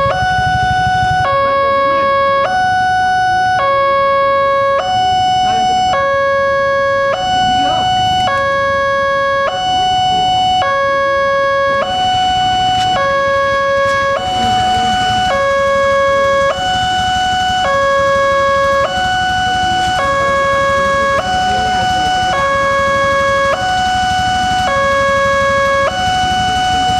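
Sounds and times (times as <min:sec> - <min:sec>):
level crossing alarm two-tone: 0:00.0 - 0:26.9.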